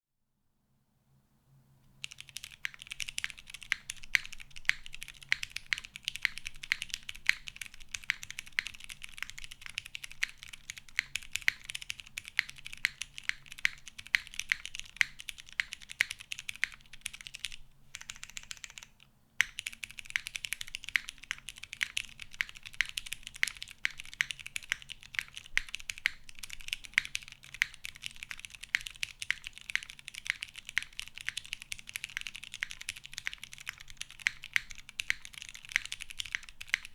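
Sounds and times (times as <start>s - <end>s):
fast mechanical keyboard typing: 2.0s - 36.9s.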